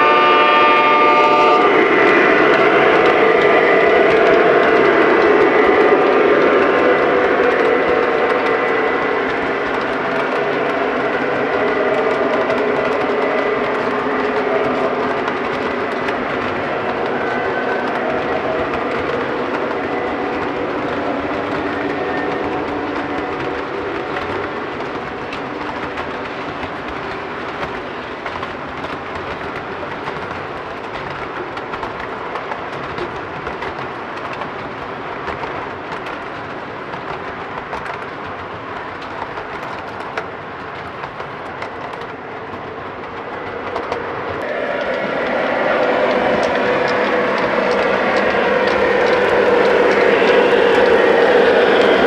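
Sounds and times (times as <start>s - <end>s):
model train cars rolling: 0.0s - 52.0s
wheels clicking on rail joints: 0.0s - 52.0s.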